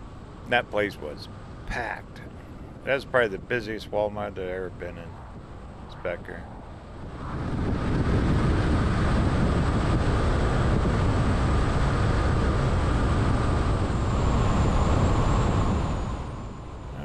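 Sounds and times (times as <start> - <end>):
faint steady whine: 0.0 - 17.0
tyre and wind rumble: 0.0 - 17.0.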